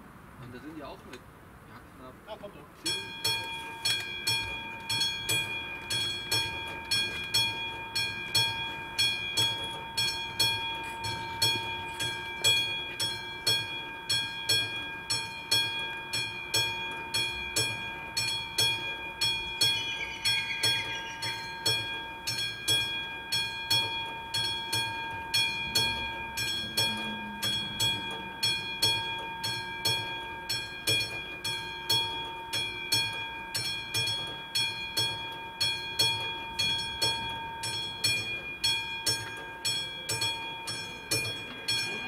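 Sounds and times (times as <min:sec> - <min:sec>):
level crossing bell ringing: 0:02.8 - 0:42.0.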